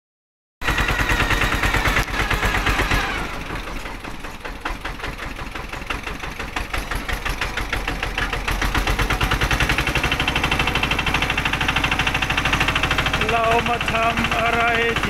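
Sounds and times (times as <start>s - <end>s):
vehicle engine chugging: 0.6s - 15.0s.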